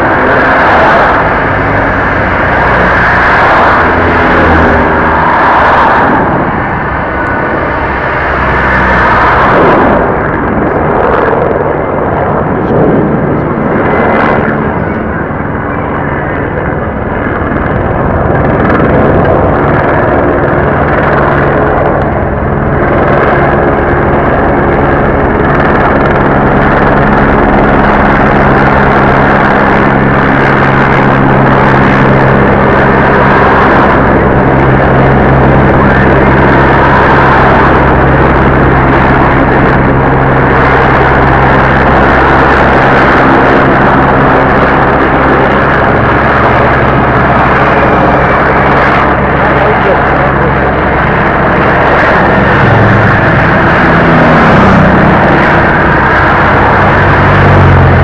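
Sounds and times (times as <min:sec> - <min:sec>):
cars and motorcycles passing: 0:00.0 - 0:58.0
steady engine hum: 0:00.0 - 0:58.0.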